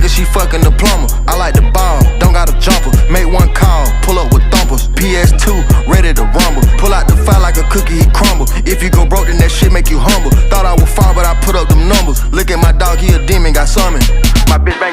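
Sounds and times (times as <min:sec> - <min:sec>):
hip-hop track with heavy bass: 0:00.0 - 0:14.9.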